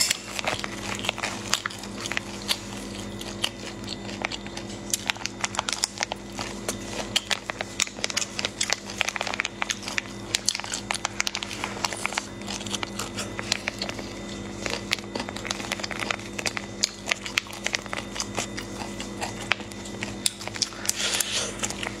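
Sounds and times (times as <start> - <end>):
person chewing saucy food: 0.0 - 22.0
plastic bag crinkling: 0.0 - 22.0
steady low hum: 0.0 - 22.0.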